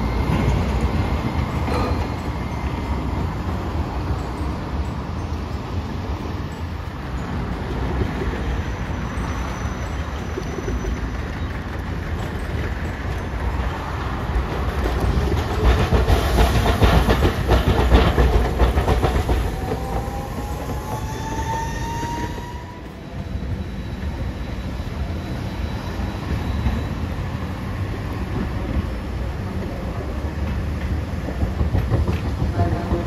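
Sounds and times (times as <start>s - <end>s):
tram rolling: 0.0s - 33.0s
tram wheels clattering over rails: 0.0s - 33.0s.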